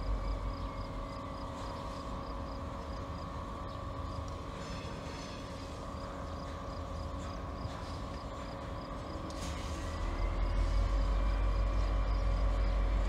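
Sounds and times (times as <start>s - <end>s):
diesel locomotive engine droning: 0.0s - 13.0s.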